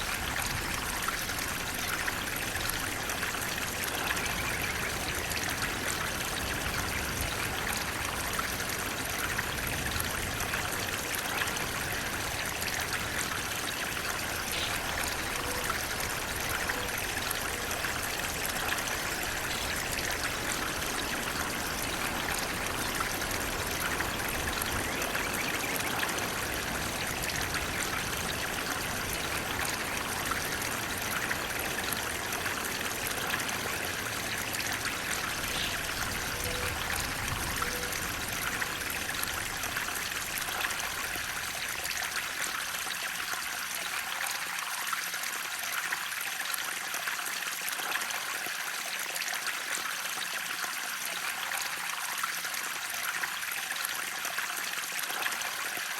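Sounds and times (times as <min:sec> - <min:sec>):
water splashing trickle: 0:00.0 - 0:55.9.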